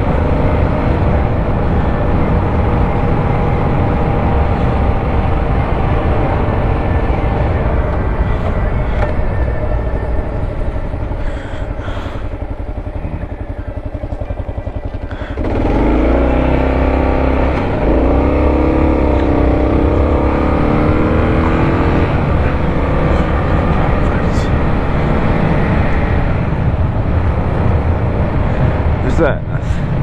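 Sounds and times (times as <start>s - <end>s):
engine rumbling and accelerating: 0.0s - 30.0s.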